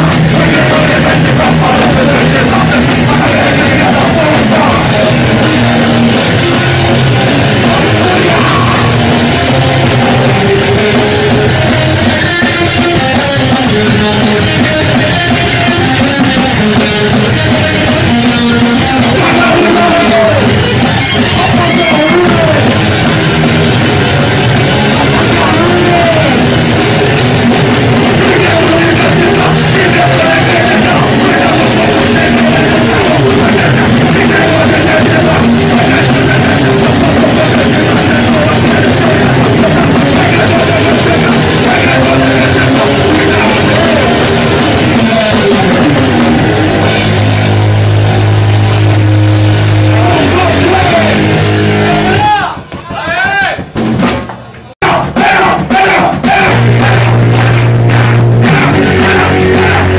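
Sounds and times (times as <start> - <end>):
singer shouting vocals: 0.0 - 22.9, 24.2 - 46.8, 49.8 - 53.8, 54.8 - 59.9
punk rock band playing: 0.0 - 59.9.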